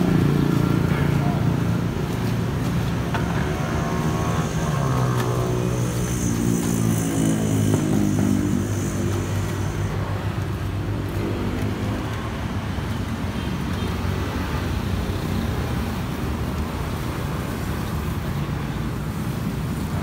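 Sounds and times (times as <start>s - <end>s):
steady road noise: 0.0s - 20.0s.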